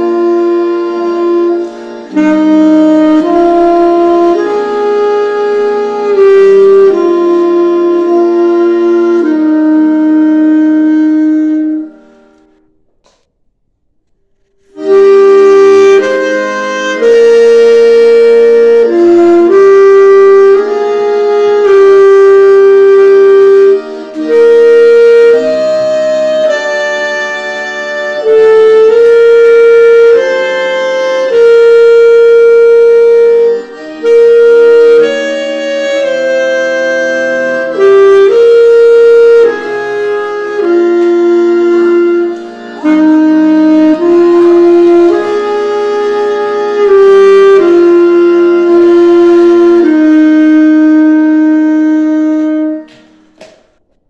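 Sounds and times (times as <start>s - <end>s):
alto saxophone playing hymn: 0.0s - 12.7s, 14.4s - 53.8s.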